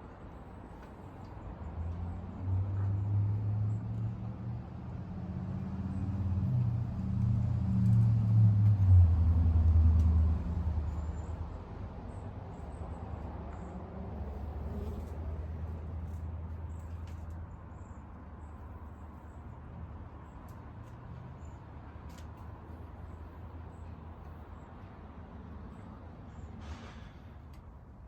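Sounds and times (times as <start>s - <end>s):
motor vehicle rumble: 0.8s - 27.8s.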